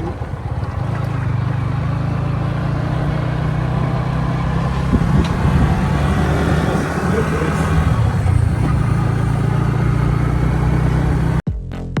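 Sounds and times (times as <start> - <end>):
motorcycle engine running steadily: 0.0 - 11.5.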